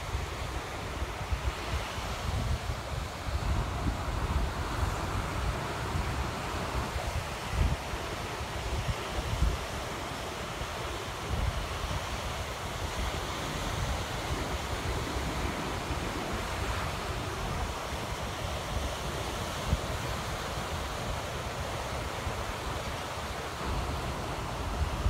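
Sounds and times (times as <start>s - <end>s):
ocean surf on a beach: 0.0s - 25.0s
wind buffeting the microphone: 0.0s - 25.0s.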